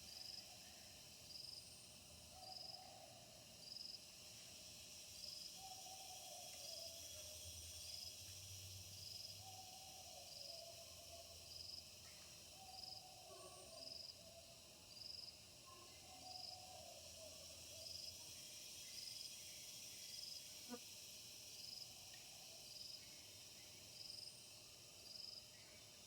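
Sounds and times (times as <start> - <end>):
insects hissing: 0.0 - 26.0.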